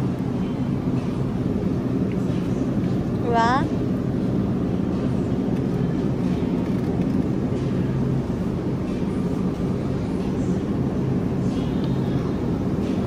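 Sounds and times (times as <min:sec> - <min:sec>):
refrigerator and ventilation hum: 0:00.0 - 0:13.0.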